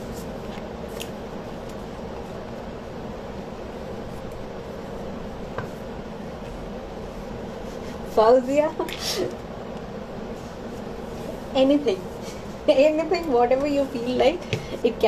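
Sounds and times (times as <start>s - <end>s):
mechanical room hum: 0.0s - 15.0s.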